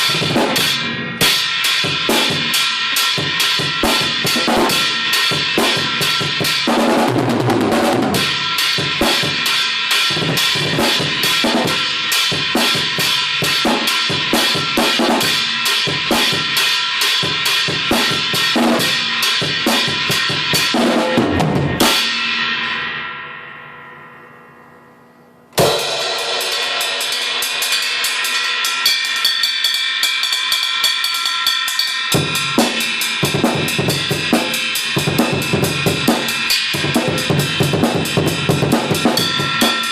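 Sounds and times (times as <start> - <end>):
cymbal crash ringing out: 0.0 - 6.7, 8.1 - 24.9, 25.6 - 39.9
drum kit playing: 0.0 - 23.0, 25.6 - 39.9.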